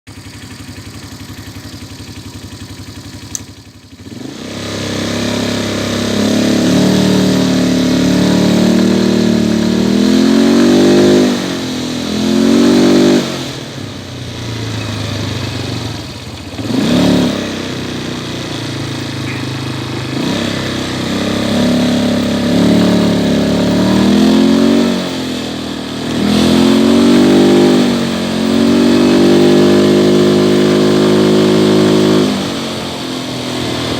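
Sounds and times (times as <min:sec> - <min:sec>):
atv engine revving: 0:00.1 - 0:33.9.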